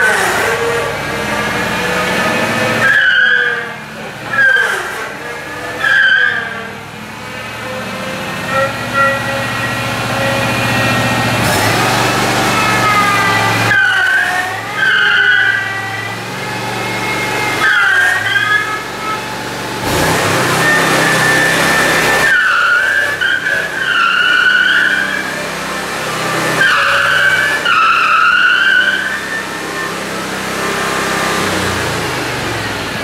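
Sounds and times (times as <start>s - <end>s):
engine running: 0.0s - 33.0s
tyres squealing on concrete: 0.0s - 33.0s.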